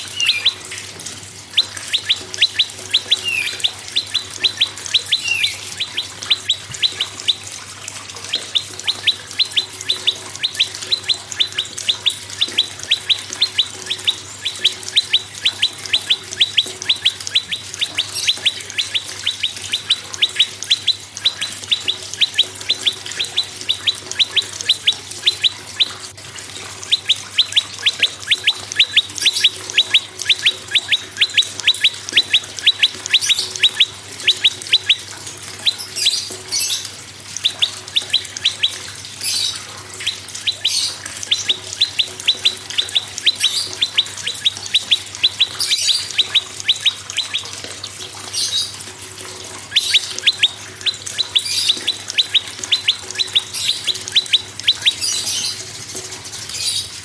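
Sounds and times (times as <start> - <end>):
harsh rasping bird calls: 0.0 - 57.0
songbirds calling rapid notes: 0.0 - 57.0.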